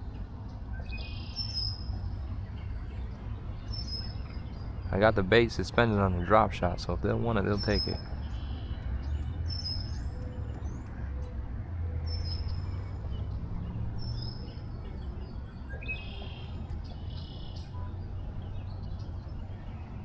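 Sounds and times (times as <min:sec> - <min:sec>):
low background rumble: 0:00.0 - 0:20.0
small birds chirping: 0:00.0 - 0:20.0.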